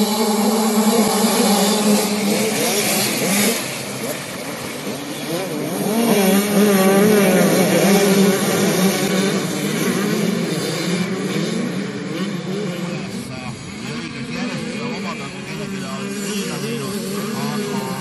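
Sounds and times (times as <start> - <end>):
motocross bikes revving: 0.0 - 18.0.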